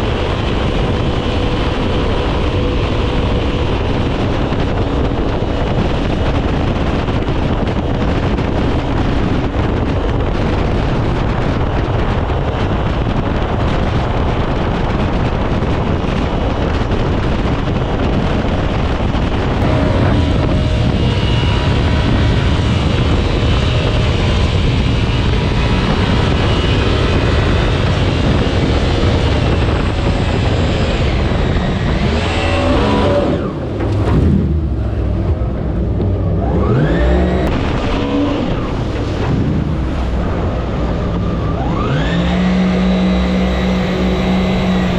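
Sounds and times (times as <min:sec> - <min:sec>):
jet boat engine at speed: 0:00.0 - 0:44.9
wind on microphone: 0:00.0 - 0:44.9.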